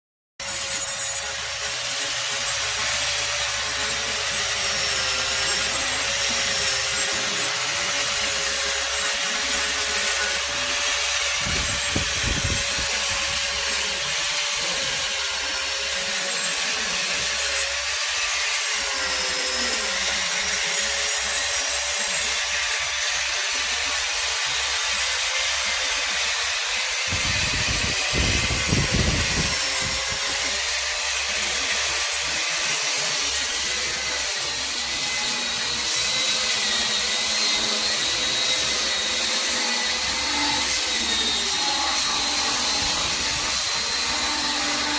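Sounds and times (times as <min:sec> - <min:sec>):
power tool motor whining: 0:00.4 - 0:44.9.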